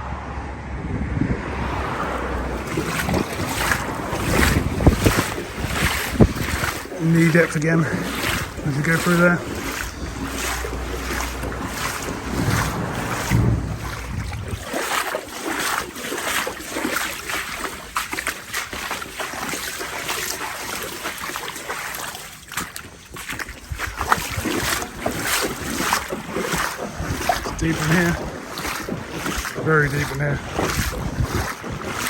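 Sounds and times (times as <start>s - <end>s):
wind rumbling on microphone: 0.0s - 21.4s, 22.0s - 32.0s
wading through water splashing: 1.4s - 32.0s.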